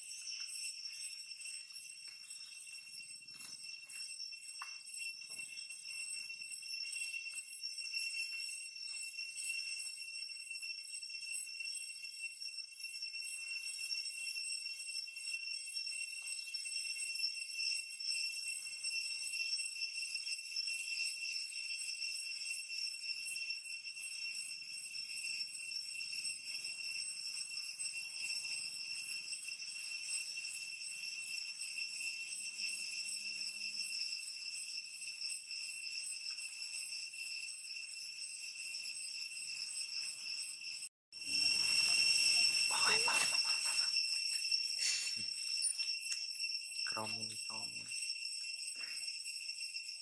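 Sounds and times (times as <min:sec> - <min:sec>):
high-pitched insect chorus: 0:00.0 - 0:50.0.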